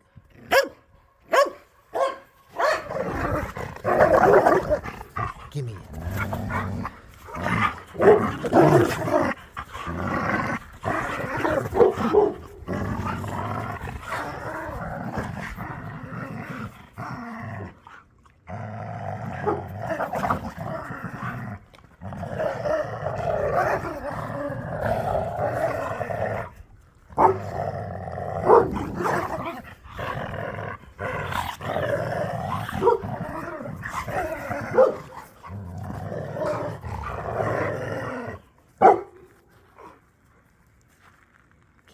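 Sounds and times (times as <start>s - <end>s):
dogs barking and snapping: 0.4s - 17.1s, 19.2s - 27.6s, 28.3s - 39.4s
dogs growling: 2.6s - 40.0s.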